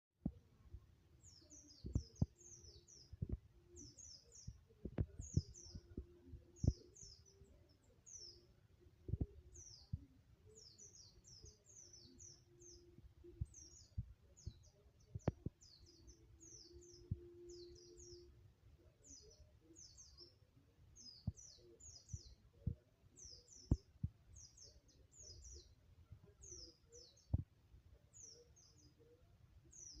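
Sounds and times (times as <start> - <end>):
bird singing high chirps: 1.2 - 27.4, 28.0 - 30.0.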